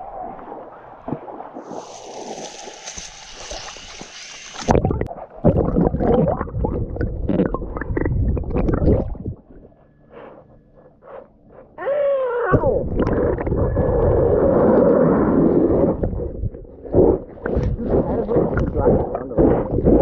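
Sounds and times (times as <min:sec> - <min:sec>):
water splashing and gurgling: 0:00.0 - 0:09.7, 0:12.6 - 0:20.0.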